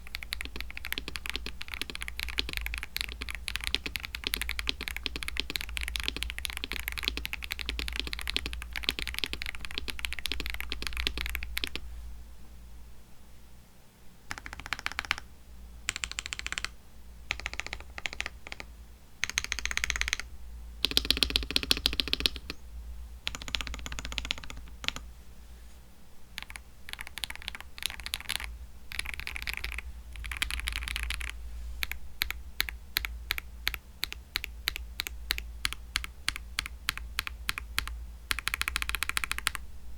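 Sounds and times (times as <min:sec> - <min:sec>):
mechanical keyboard typing: 0:00.0 - 0:11.8, 0:14.3 - 0:15.3, 0:15.9 - 0:22.6, 0:23.2 - 0:25.0, 0:26.4 - 0:39.6.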